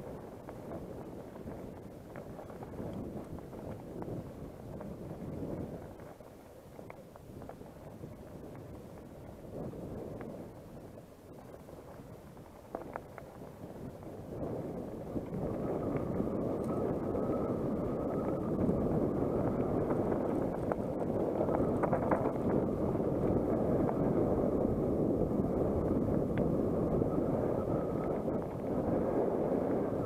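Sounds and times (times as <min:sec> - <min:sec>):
bike clicks and rattles: 0:00.0 - 0:30.0
wind rushing over microphone: 0:00.0 - 0:30.0.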